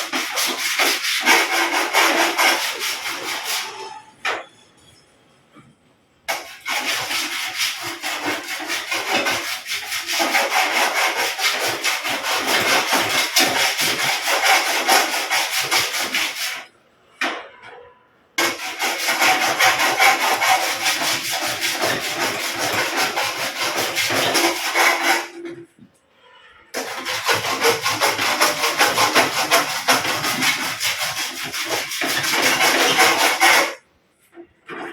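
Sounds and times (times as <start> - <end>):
file rasping on sheet metal: 0.0 - 4.9, 6.3 - 16.7, 18.4 - 25.7, 26.8 - 33.9.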